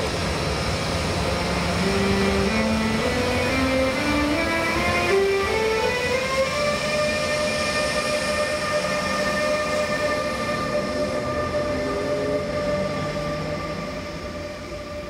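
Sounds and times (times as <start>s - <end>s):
wheels rumbling on rail: 0.0s - 15.0s
traction converters whining: 0.1s - 15.0s.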